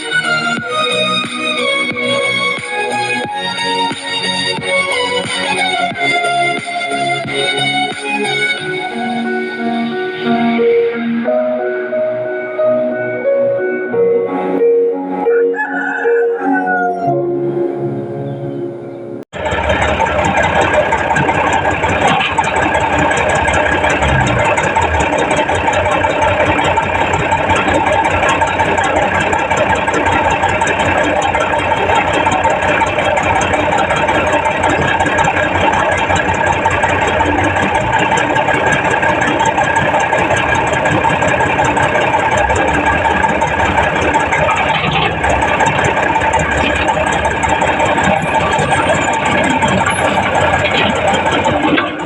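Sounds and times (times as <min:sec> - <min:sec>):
heavy diesel engines running: 0:00.0 - 0:14.8, 0:17.4 - 0:52.0.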